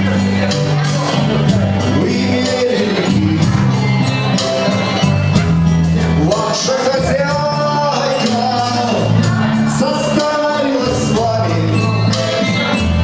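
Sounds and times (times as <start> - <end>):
backing track with bass line: 0.0 - 13.0.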